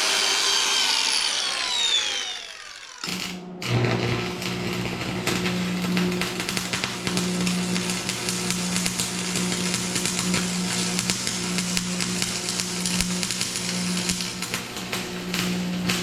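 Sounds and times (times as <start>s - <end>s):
welding arc crackling and sizzling: 0.0s - 16.0s.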